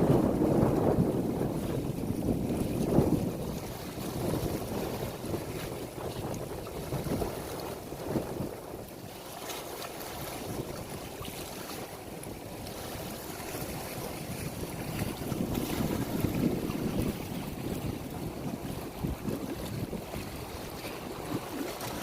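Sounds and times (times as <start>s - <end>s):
moving water: 0.0s - 22.0s
wind buffeting microphone: 0.0s - 22.0s.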